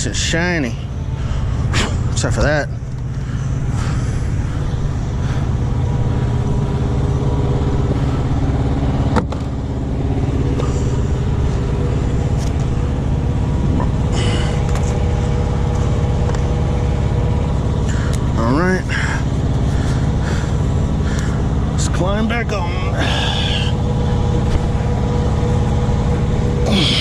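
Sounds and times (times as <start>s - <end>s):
heavy truck engine idling: 0.0s - 27.0s.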